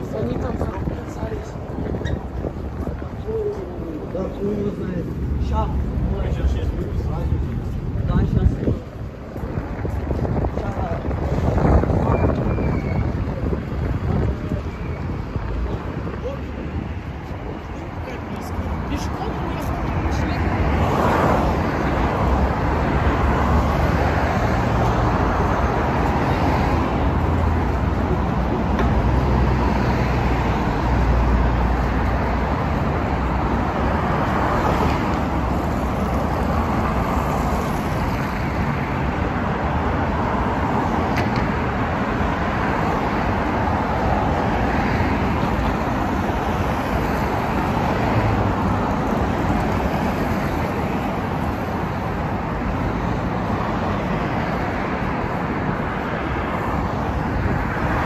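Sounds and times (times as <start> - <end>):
city traffic rumble: 0.0 - 58.0.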